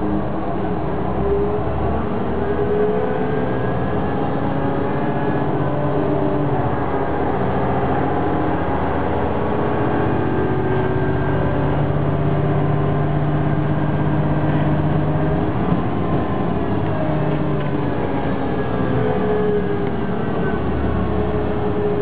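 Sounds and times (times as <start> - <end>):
diesel engine drone: 0.0 - 22.0
moving train rumble: 0.0 - 22.0.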